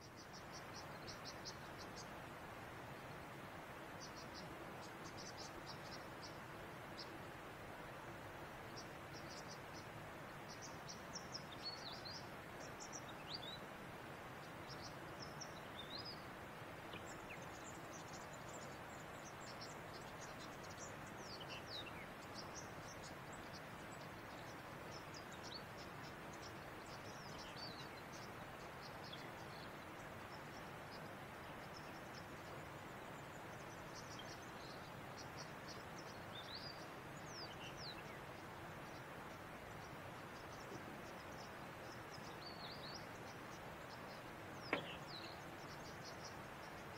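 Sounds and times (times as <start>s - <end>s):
background hiss: 0.0s - 46.9s
small birds chirping: 0.0s - 46.9s.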